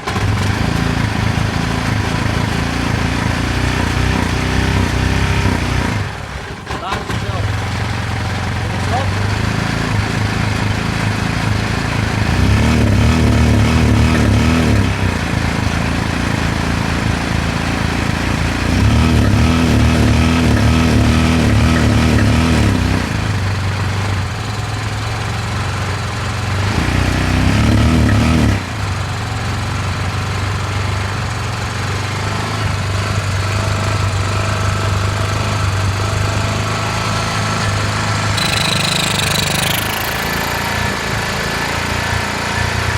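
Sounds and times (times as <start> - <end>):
engine revving: 0.0 - 6.3, 6.9 - 24.8, 26.2 - 29.6, 31.9 - 42.9.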